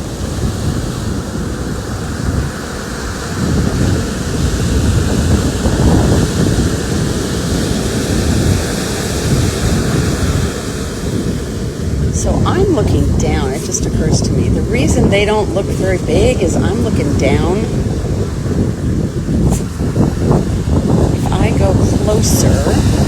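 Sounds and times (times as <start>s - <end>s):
ocean waves breaking: 0.0s - 23.0s
wind buffeting microphone: 0.0s - 23.0s.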